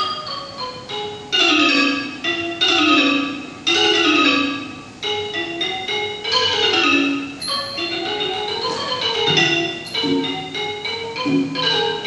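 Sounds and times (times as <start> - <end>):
wooden xylophone notes: 0.0 - 12.0.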